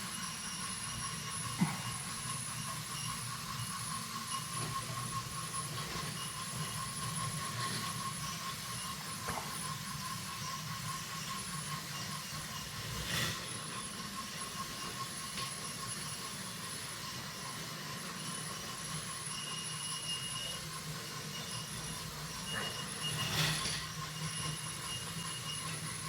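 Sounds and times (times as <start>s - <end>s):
toy train motors whirring: 0.0s - 26.0s.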